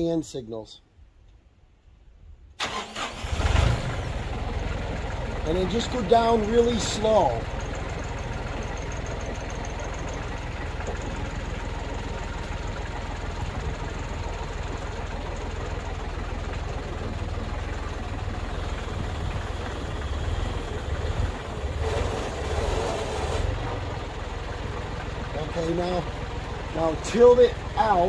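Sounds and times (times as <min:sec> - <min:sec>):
tractor engine running: 0:02.6 - 0:28.0.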